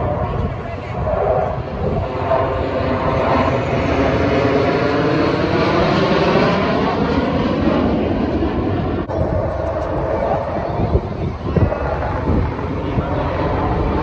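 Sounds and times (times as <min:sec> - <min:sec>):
fighter jets roaring overhead: 0:00.0 - 0:14.0.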